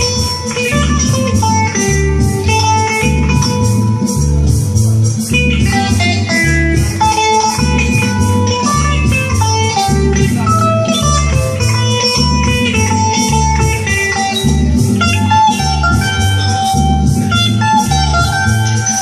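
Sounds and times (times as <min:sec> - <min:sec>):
electric guitar melody: 0:00.0 - 0:19.0
pulsing bass beat: 0:00.0 - 0:19.0.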